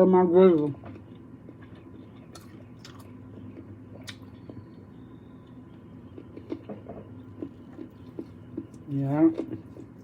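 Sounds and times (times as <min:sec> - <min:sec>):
person chewing meat: 0:00.5 - 0:10.0.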